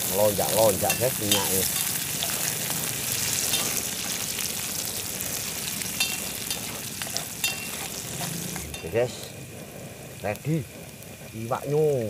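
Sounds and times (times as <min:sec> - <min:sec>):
oil spitting: 0:00.0 - 0:11.3
vegetables sizzling in hot oil: 0:00.0 - 0:12.0.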